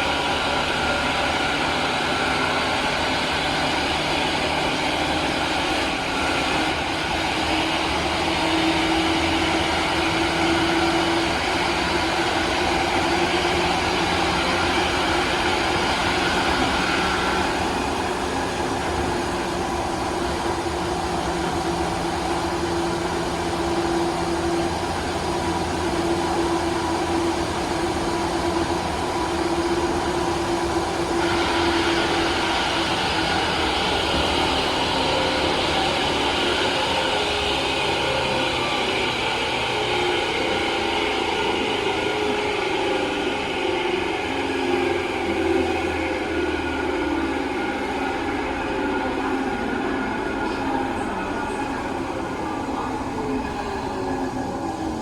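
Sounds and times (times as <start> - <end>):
electric train running: 0.0 - 55.0
jet-like whine: 0.0 - 55.0.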